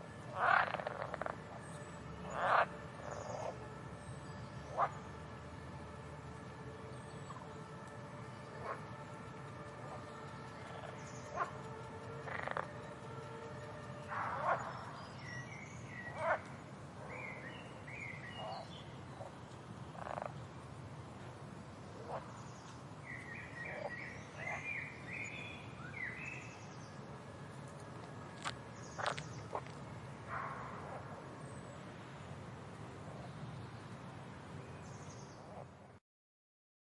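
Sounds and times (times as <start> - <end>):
frogs croaking: 0.0 - 20.4, 21.9 - 31.8
low background hum: 0.0 - 36.0.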